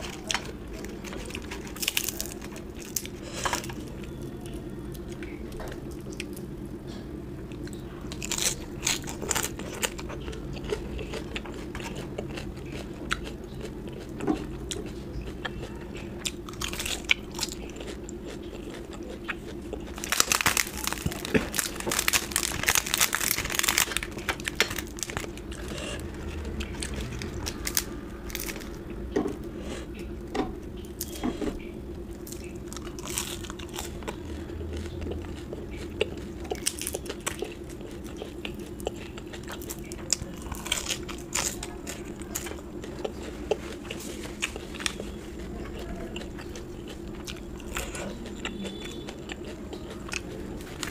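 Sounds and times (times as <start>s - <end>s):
person chewing and crunching food: 0.0s - 50.9s.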